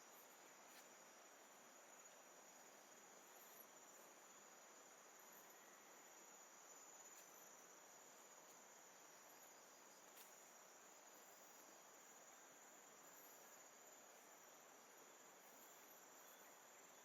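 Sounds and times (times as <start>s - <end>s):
faint hiss: 0.0s - 17.0s
insects droning: 0.0s - 17.0s.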